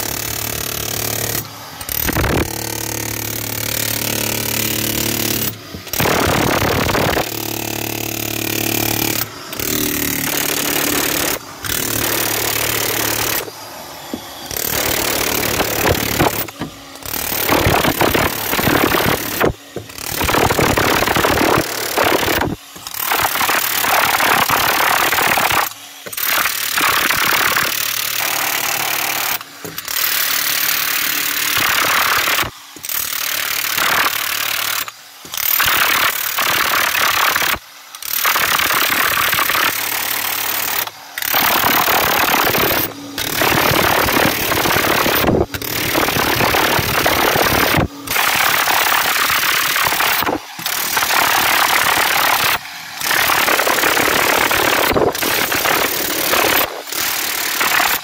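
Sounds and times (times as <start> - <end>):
powered rammer compacting earth: 0.0 - 58.0.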